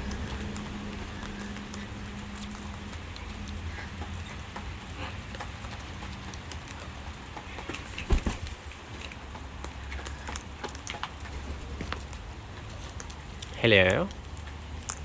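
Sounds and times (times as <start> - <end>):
steady rain falling: 0.0 - 14.9
low steady hum: 0.0 - 15.0.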